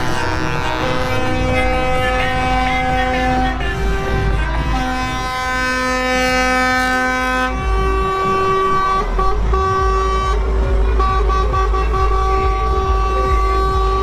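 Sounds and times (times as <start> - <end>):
deep engine rumble: 0.0 - 14.0
truck air horns blowing: 0.0 - 14.0.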